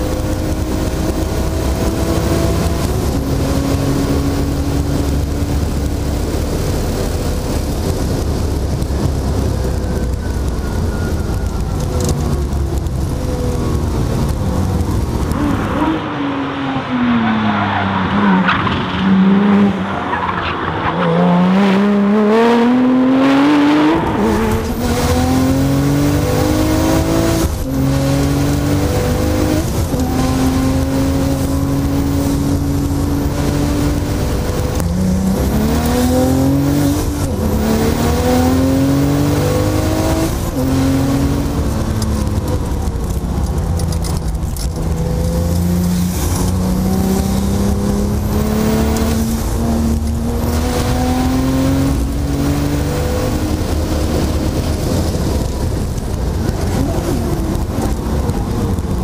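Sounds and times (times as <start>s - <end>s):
cabin and road rumble: 0.0s - 59.0s
sports car engine at full throttle: 0.0s - 59.0s.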